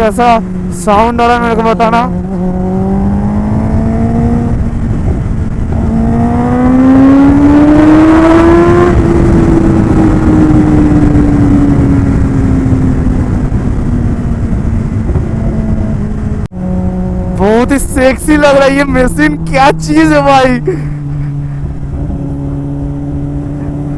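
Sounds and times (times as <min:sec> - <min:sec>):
motorcycle engine revving: 0:00.0 - 0:23.9
steady rushing noise: 0:00.0 - 0:23.9.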